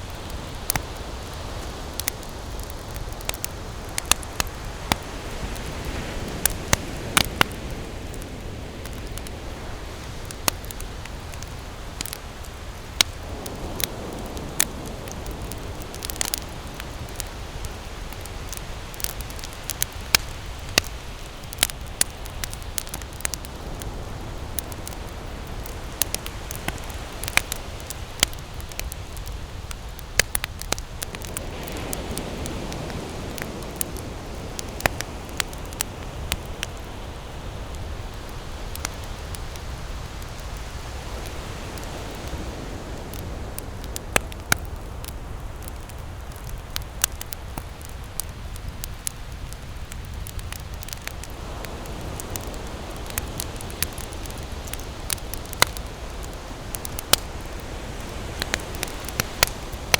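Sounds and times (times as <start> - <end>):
campfire crackling and popping: 0.0 - 59.9
fire hissing: 0.0 - 59.9.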